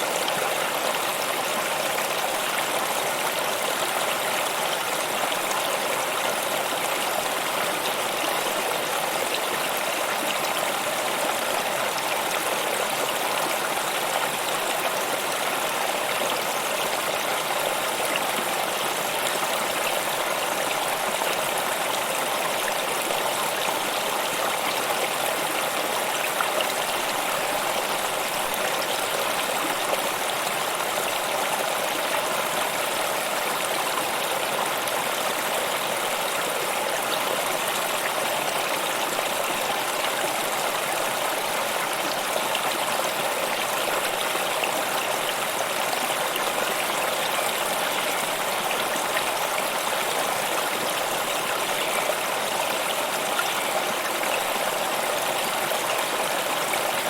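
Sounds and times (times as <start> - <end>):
stream water flowing and splashing: 0.0 - 57.0.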